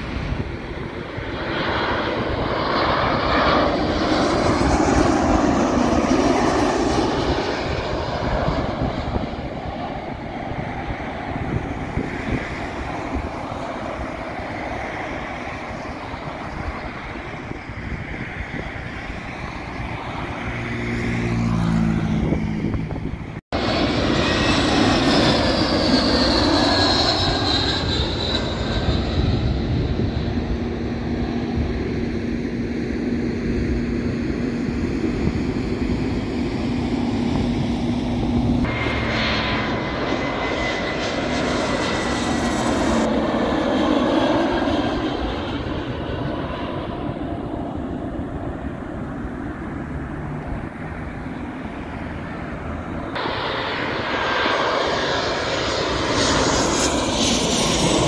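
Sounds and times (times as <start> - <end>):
jet engine roar with whine: 0.0 - 58.0.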